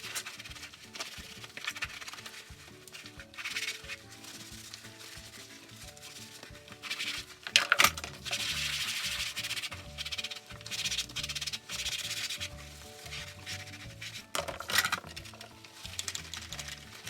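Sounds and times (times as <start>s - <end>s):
sponge scrubbing: 0.0s - 14.4s
soft background music: 0.0s - 17.0s.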